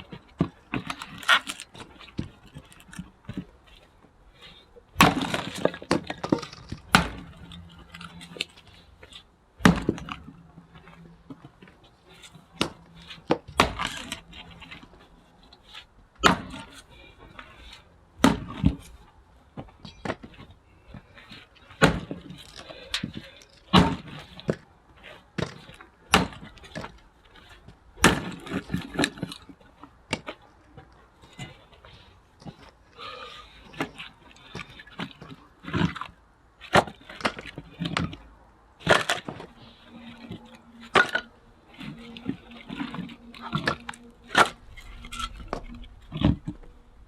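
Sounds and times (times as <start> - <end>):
axe splitting logs: 0.1 - 3.4, 4.9 - 8.6, 9.6 - 15.0, 16.2 - 17.5, 18.2 - 19.0, 19.6 - 30.4, 32.5 - 38.2, 38.8 - 46.8.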